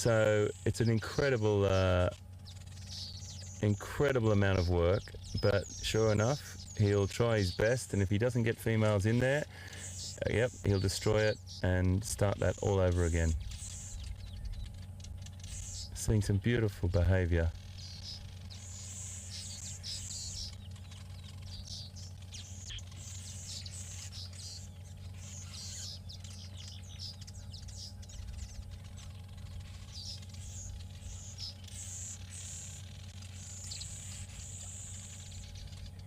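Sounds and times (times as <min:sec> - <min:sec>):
low steady hum: 0:00.0 - 0:36.0
weaver birds chattering: 0:00.0 - 0:36.0.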